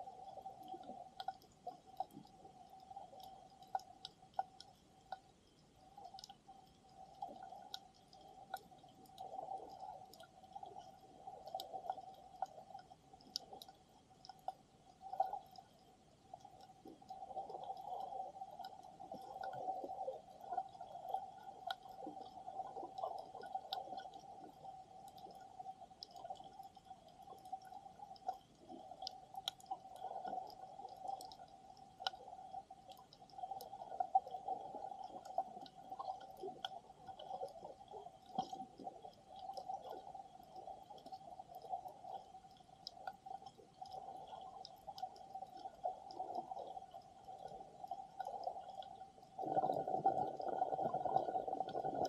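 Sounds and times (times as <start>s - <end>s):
faint clicks and crackles: 0.0s - 52.0s
muffled swell of water movement: 0.0s - 52.0s
underwater hum: 0.0s - 52.0s.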